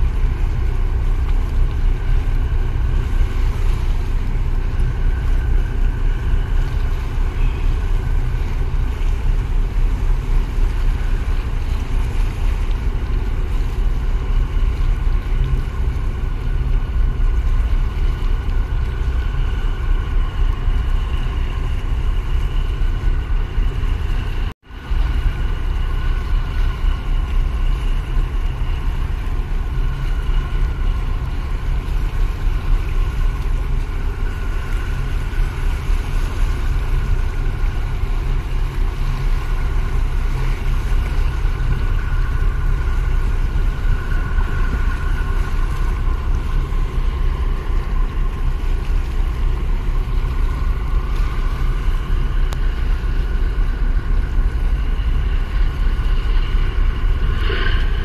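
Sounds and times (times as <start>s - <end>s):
boat engine rumble: 0.0s - 58.0s
faint steady whine: 0.0s - 58.0s
wind on microphone: 0.0s - 58.0s.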